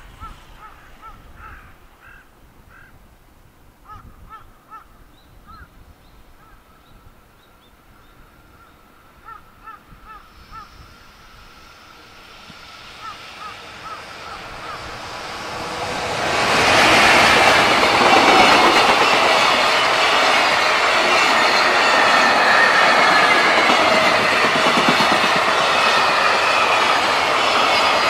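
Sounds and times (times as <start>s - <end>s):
electric locomotive and freight train: 0.0s - 28.0s.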